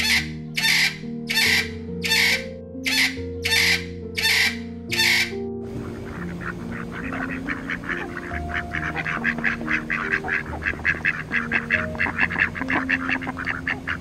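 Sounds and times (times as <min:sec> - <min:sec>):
background music with held notes: 0:00.0 - 0:14.0
ducks quacking: 0:00.0 - 0:14.0.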